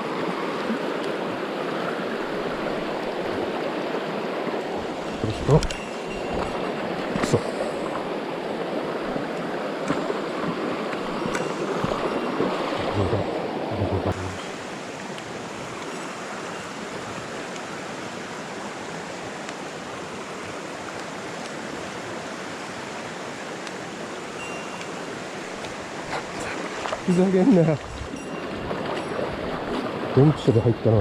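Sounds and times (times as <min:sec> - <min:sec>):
stream rushing over rocks: 0:00.0 - 0:31.0.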